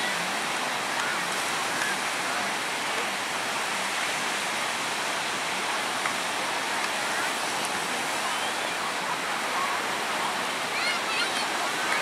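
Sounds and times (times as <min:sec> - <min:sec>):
sea surf breaking on shore: 0:00.0 - 0:12.0.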